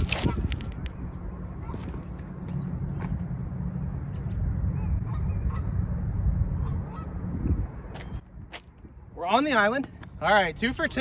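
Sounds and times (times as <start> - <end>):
birds calling: 0.0 - 10.3
steady low rumble: 0.0 - 11.0.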